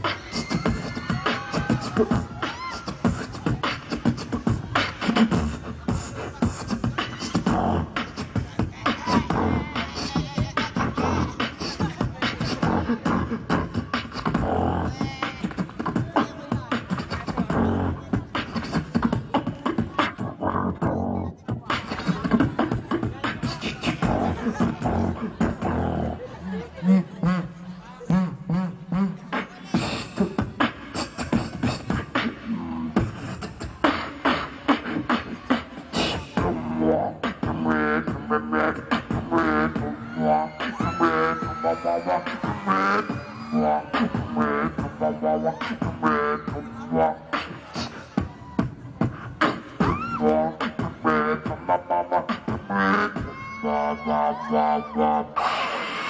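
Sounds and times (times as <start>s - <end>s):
beatboxing through a microphone: 0.0s - 56.0s
pitched vocal tones: 0.0s - 56.0s.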